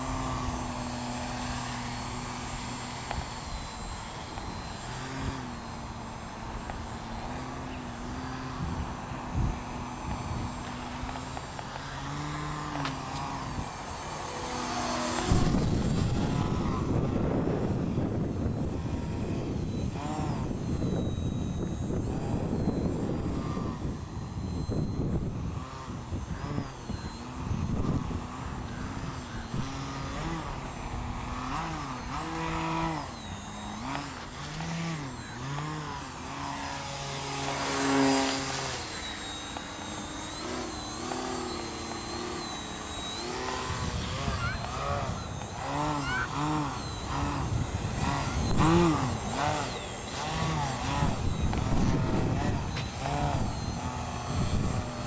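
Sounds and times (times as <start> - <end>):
model plane electric motor: 0.0 - 55.0
wind buffeting microphone: 0.0 - 55.0.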